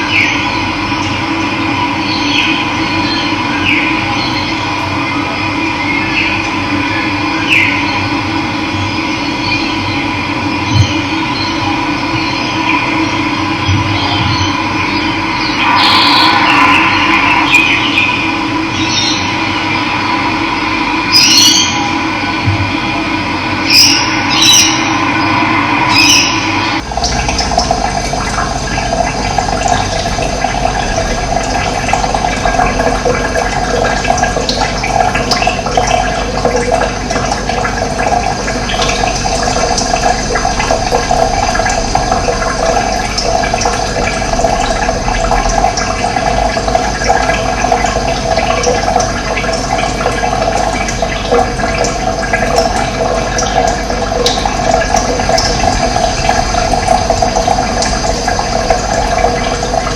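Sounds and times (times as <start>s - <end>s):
running water rushing: 10.7s - 59.9s.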